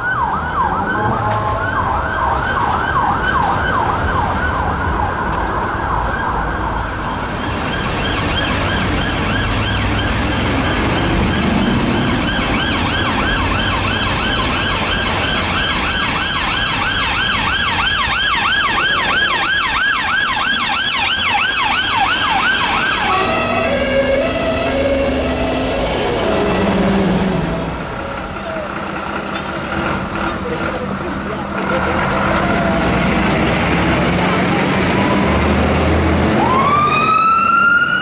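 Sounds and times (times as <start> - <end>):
emergency vehicle siren: 0.0 - 29.2, 31.7 - 38.0
traffic rumble: 0.0 - 38.0.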